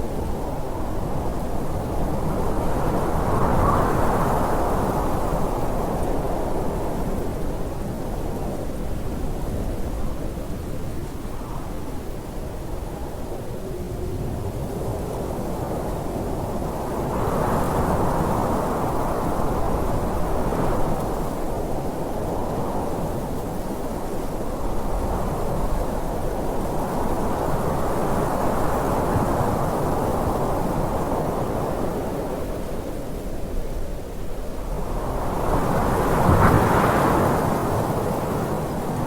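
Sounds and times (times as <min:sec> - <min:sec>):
strong wind blowing in gusts: 0:00.0 - 0:39.0.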